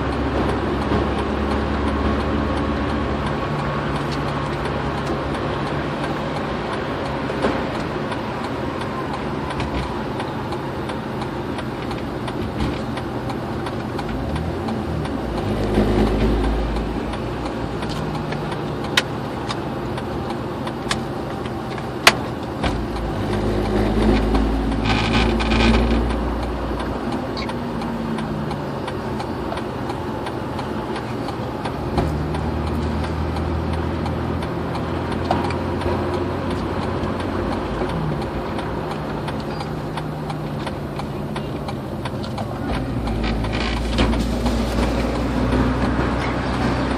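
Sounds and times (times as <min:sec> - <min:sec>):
car engine hum: 0:00.0 - 0:46.9
tyre and road noise: 0:00.0 - 0:46.9
sharp clicks: 0:00.1 - 0:44.2.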